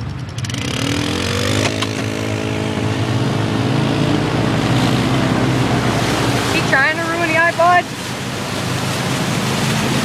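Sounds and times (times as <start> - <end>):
off-road vehicle engine revving: 0.0 - 10.0
rushing noise: 0.5 - 10.0.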